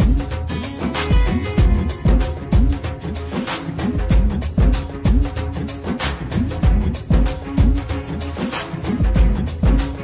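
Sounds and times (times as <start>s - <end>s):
bright hi-hat strokes: 0.0s - 10.0s.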